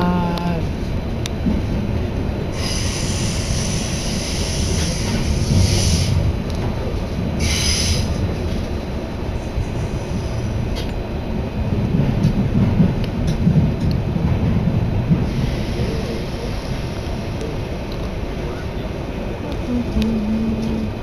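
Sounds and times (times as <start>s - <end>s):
train running gear rumble: 0.0s - 21.0s.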